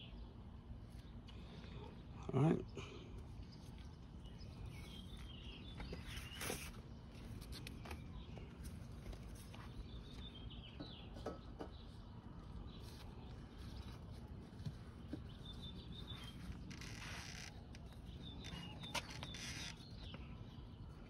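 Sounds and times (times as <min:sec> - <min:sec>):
low steady hum: 0:00.0 - 0:21.0
faint bird chirps: 0:01.0 - 0:21.0.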